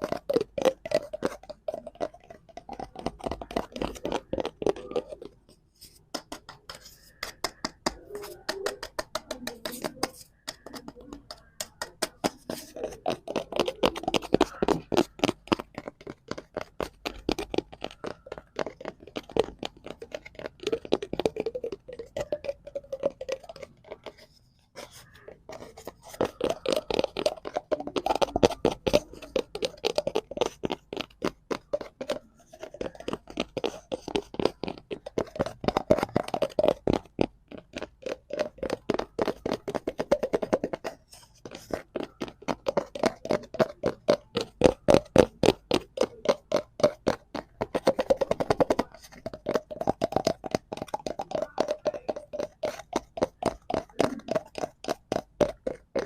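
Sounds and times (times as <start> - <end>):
fingers tapping on cardboard: 0.0 - 56.0.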